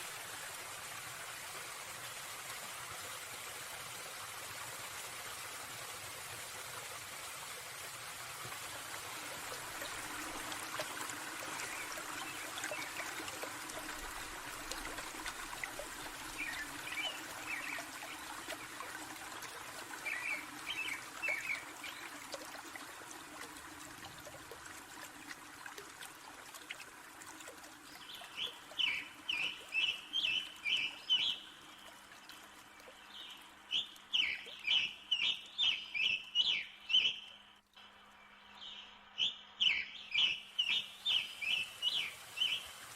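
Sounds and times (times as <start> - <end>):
running water trickling: 0.0 - 42.9.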